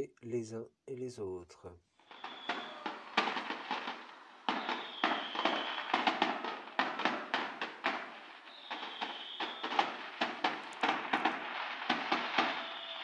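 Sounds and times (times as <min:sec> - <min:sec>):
firework whistle: 0:02.0 - 0:13.0
fireworks cracks and pops: 0:02.0 - 0:13.0.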